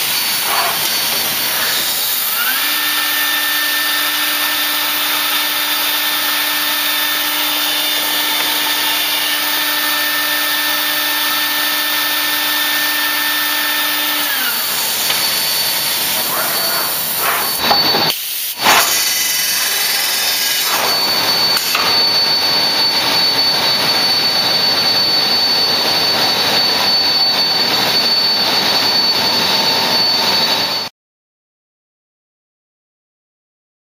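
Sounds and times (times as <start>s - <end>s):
machine motor whine: 0.0s - 30.9s.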